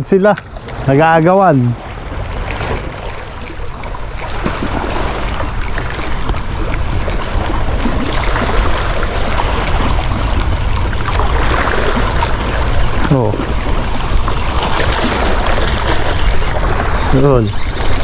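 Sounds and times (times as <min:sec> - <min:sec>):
waves washing: 0:00.0 - 0:18.0
wind rumbling on microphone: 0:00.0 - 0:18.0.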